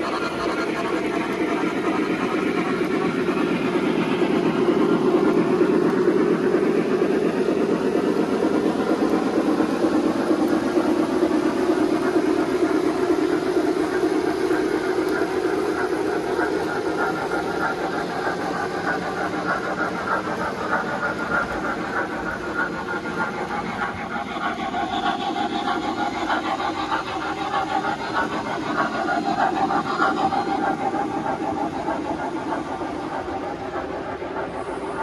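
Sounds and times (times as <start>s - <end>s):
model train wheels rumbling on rail: 0.0s - 35.0s
wavering whine: 0.0s - 35.0s.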